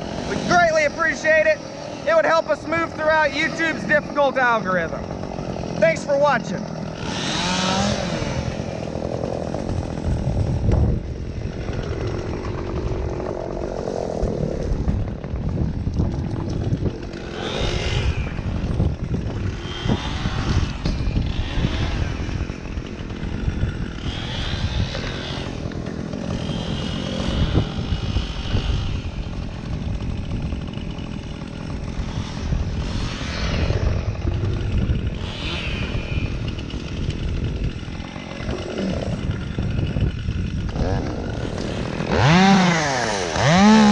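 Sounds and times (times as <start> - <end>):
chainsaw revving: 0.0 - 43.9
wind rumble on microphone: 7.3 - 43.9.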